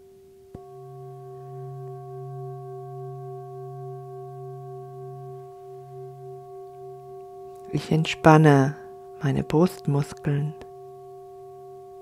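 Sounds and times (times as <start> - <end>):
singing bowl ringing: 0.0 - 12.0.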